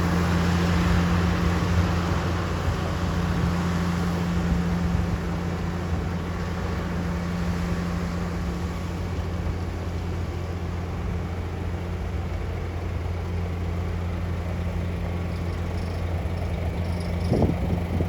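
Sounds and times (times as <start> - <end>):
heavy machinery engine running: 0.0 - 18.0.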